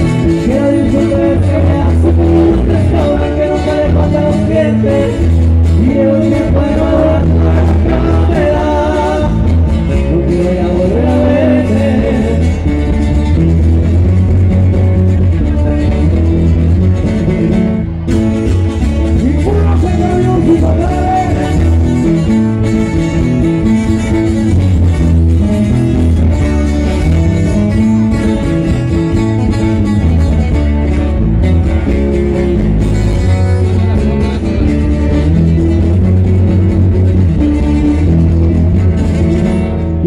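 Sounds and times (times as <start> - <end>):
electric guitars: 0.0 - 40.0
steady bass: 0.0 - 40.0.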